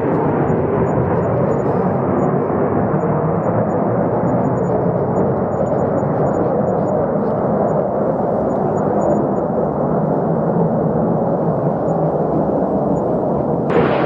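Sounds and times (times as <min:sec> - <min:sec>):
fighter jet engine rumbling: 0:00.0 - 0:14.0.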